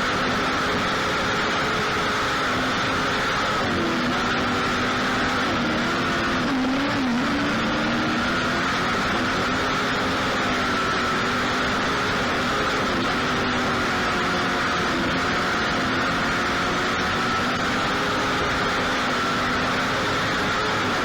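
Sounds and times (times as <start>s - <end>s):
race car engine running: 0.0s - 21.0s.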